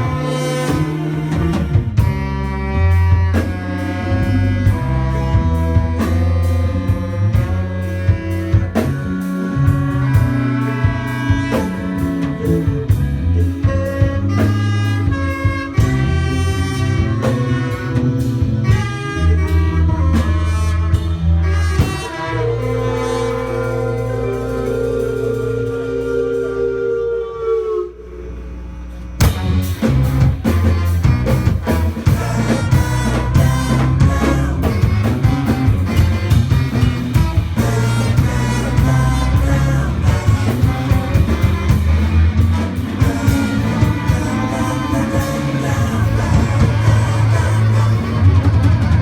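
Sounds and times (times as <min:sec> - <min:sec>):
drum kit beat: 0:00.0 - 0:26.4, 0:29.2 - 0:49.0
electric bass: 0:00.0 - 0:49.0
saxophone and brass horns: 0:00.0 - 0:49.0.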